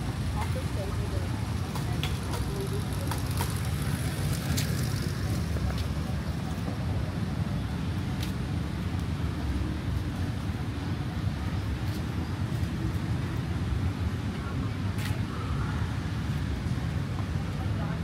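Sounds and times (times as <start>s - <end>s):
distant city traffic rumble: 0.0s - 18.0s.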